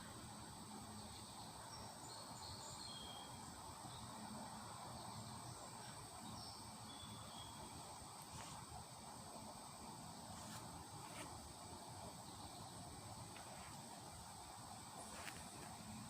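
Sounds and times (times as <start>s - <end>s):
steady high-pitched whine: 0.0s - 16.0s.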